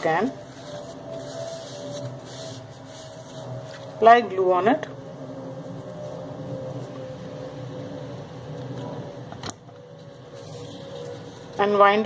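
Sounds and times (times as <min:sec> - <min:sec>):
fan-like room hum: 0:00.0 - 0:12.0.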